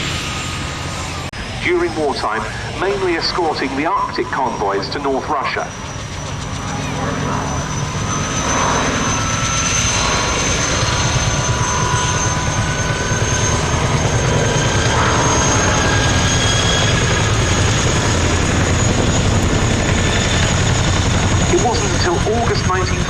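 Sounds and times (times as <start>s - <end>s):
propeller aircraft engine: 0.0s - 23.0s.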